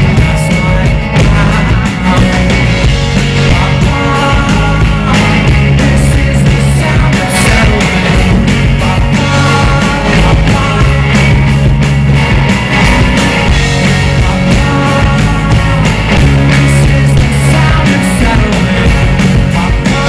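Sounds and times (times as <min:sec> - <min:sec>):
person singing: 0:00.0 - 0:11.6, 0:12.6 - 0:20.0
live rock band playing: 0:00.0 - 0:20.0.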